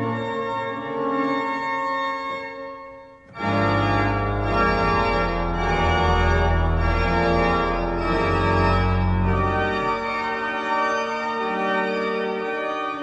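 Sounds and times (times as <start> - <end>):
organ playing full chords: 0.0 - 13.0.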